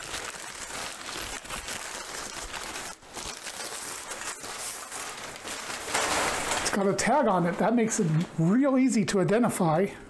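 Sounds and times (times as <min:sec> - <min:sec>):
paper rustling and crinkling: 0:00.0 - 0:08.8.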